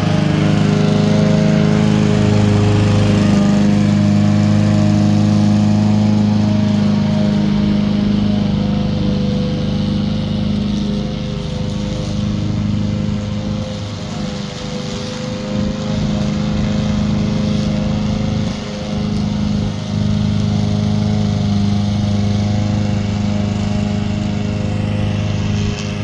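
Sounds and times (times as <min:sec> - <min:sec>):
lawn mower running: 0:00.0 - 0:26.0.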